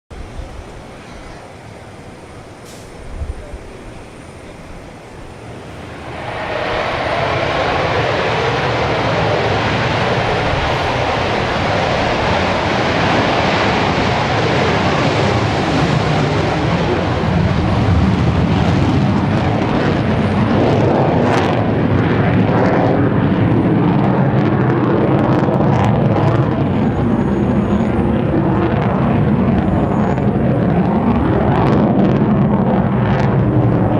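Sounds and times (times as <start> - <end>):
jet engine roar: 0.1 - 33.9.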